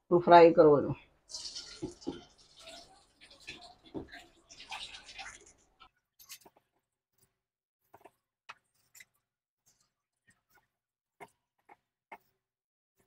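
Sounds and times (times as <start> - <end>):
batter crackling in hot oil: 1.0 - 12.4.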